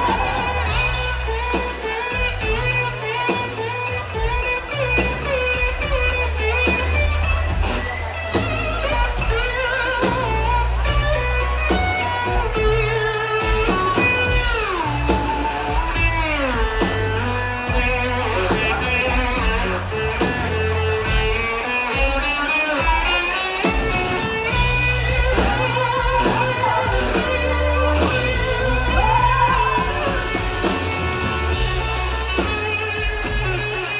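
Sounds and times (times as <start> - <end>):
blues-rock band playing: 0.0 - 33.9
slide guitar lead: 0.0 - 33.9.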